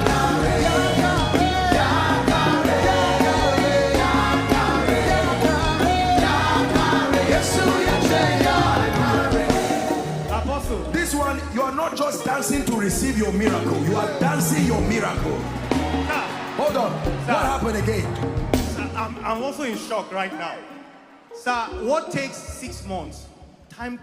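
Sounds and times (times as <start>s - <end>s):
upbeat gospel music with singing: 0.0s - 23.1s.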